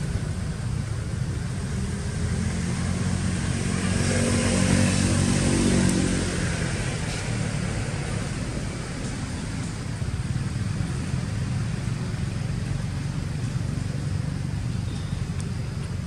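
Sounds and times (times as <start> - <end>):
low traffic rumble: 0.0 - 16.0
vehicle engine passing by: 1.4 - 15.4.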